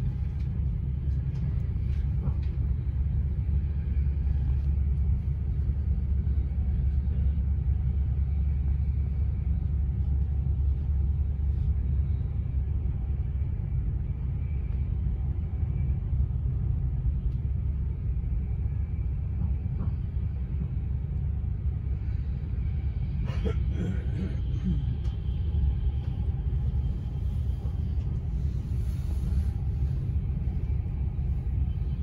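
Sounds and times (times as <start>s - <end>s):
train rumbling on rails: 0.0s - 32.0s.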